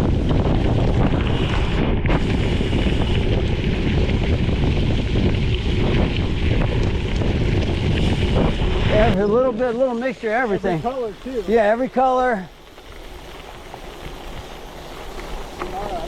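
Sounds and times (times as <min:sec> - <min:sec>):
tyres rolling over gravel: 0:00.0 - 0:16.0
wind rushing over microphone: 0:00.0 - 0:16.0.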